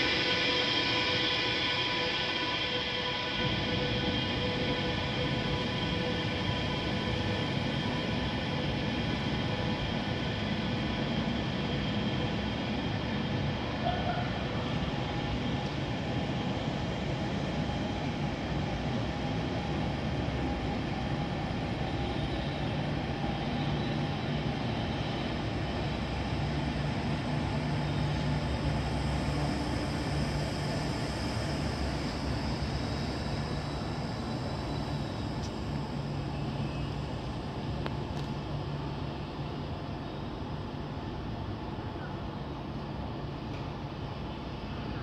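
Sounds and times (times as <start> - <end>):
train rolling noise: 0.0 - 45.0.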